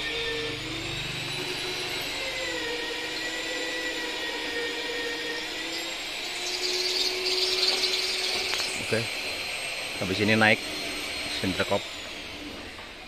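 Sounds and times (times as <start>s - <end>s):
small motor whining: 0.0s - 13.0s.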